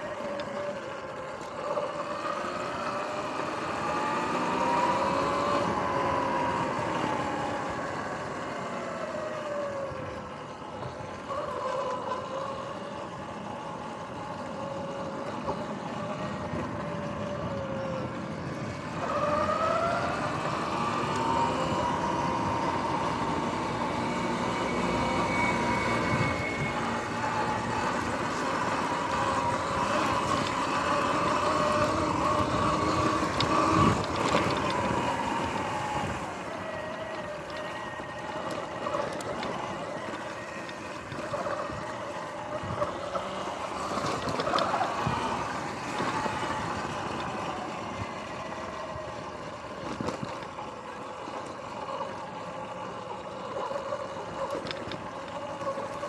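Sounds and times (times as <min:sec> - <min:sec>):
electric motor whining: 0:00.0 - 0:56.0
tyre and wind noise: 0:00.0 - 0:56.0.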